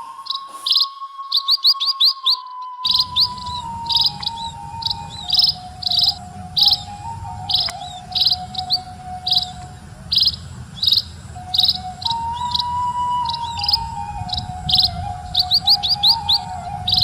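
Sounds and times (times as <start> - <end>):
bamboo flute long notes: 0.0 - 17.0
high chirps: 0.0 - 17.0.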